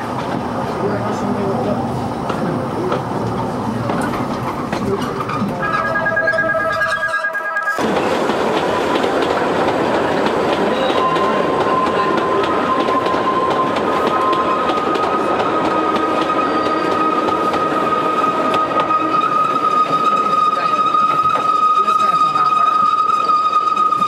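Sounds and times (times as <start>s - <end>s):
train wheels rumbling on rails: 0.0s - 5.7s, 7.8s - 24.0s.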